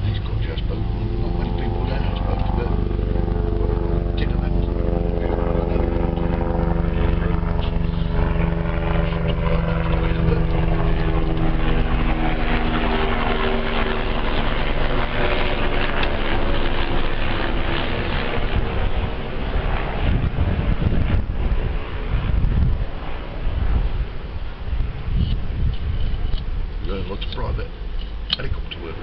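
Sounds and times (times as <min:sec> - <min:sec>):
helicopter engine hum: 0:00.0 - 0:29.0
rushing rotor noise: 0:00.0 - 0:29.0.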